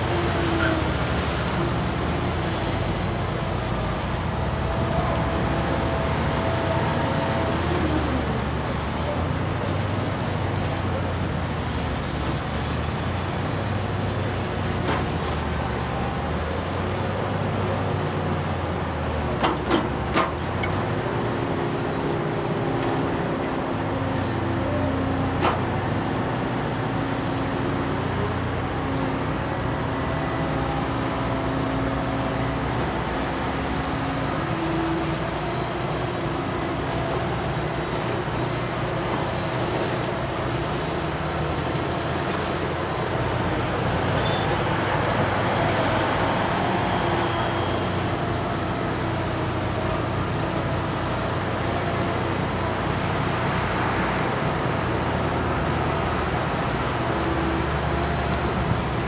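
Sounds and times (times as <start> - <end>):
diesel machinery engines running: 0.0 - 59.0.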